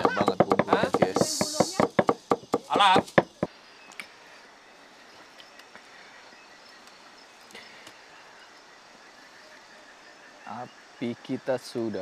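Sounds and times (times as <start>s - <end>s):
faint outdoor ambient noise: 0.0s - 12.0s.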